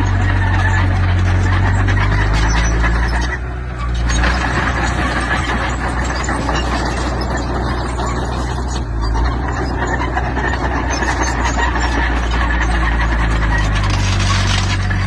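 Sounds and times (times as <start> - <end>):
heavy machinery diesel engine running: 0.0 - 15.0.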